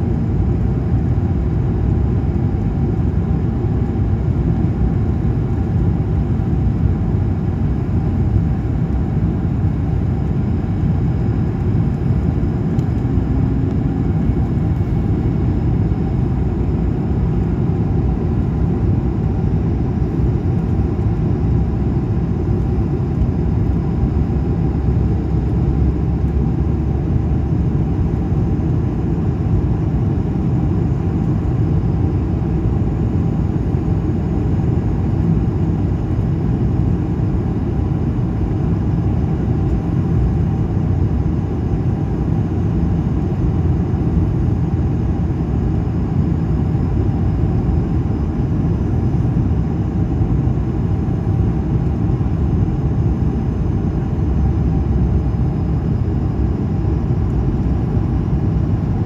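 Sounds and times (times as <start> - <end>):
faint hum: 0.0 - 59.0
jet engine roar: 0.0 - 59.0.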